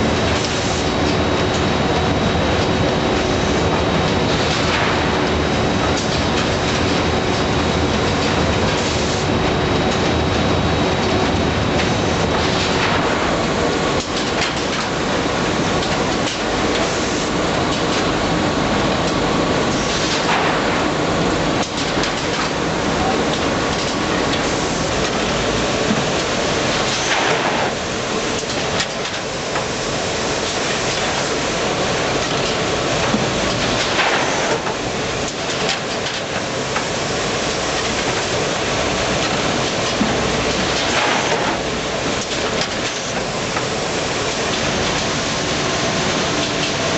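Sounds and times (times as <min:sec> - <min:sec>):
bagging machine clattering: 0:00.0 - 0:46.9.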